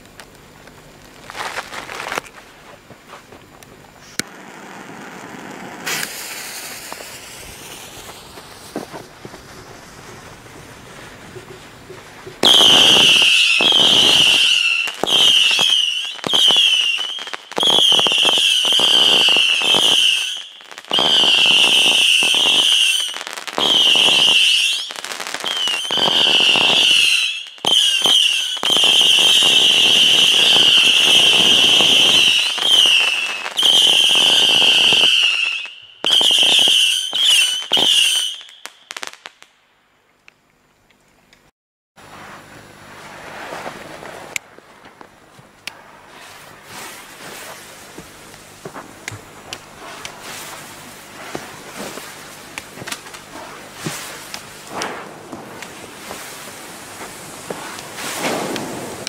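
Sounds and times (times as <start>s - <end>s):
whistling fireworks: 4.0s - 39.5s, 42.0s - 59.0s.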